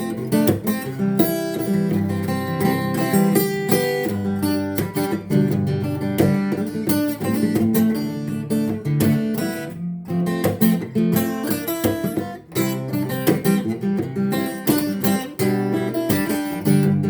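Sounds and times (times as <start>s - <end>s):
acoustic guitar plucked and strummed: 0.0s - 17.0s.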